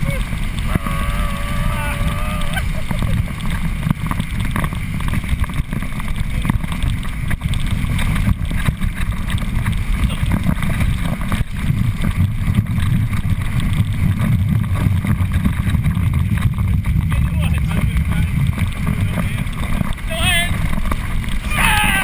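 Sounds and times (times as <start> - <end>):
water rushing: 0.0 - 22.0
wind buffeting microphone: 0.0 - 22.0.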